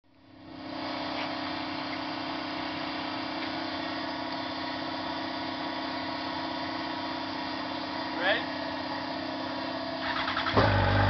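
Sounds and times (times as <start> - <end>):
motorcycle engine idling: 2.0 - 11.0.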